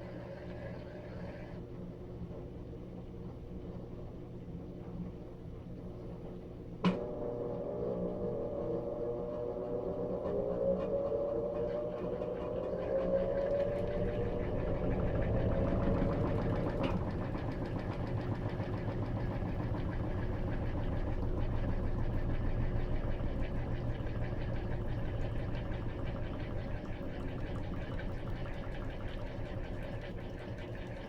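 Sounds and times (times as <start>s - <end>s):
washing machine low rumble: 0.0s - 31.0s
washing machine whine rising: 5.1s - 31.0s.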